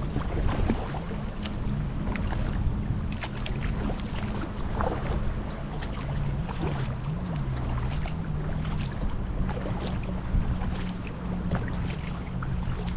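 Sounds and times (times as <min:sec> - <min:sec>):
low wavering hum: 0:00.0 - 0:12.9
paddle splashes and drips: 0:00.0 - 0:12.9
wind rumbling on microphone: 0:00.0 - 0:12.9.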